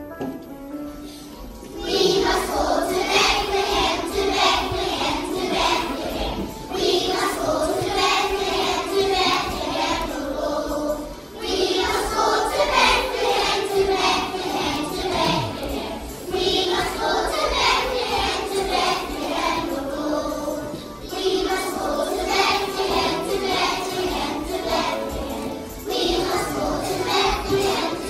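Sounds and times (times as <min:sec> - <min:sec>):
children's choir singing: 0:00.9 - 0:28.0.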